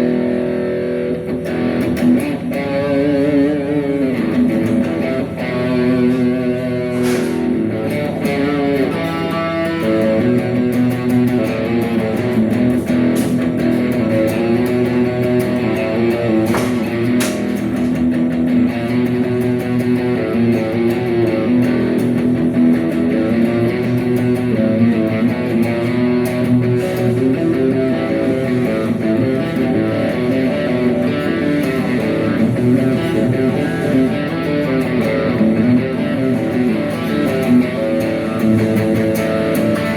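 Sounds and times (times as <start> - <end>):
rock music with electric guitar: 0.0 - 39.9.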